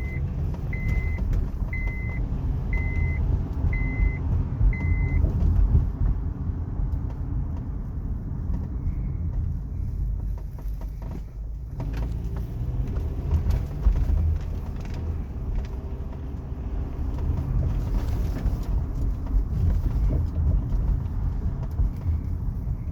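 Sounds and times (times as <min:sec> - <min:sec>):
car road rumble: 0:00.0 - 0:22.9
suspension knocking over bumps: 0:00.0 - 0:22.9.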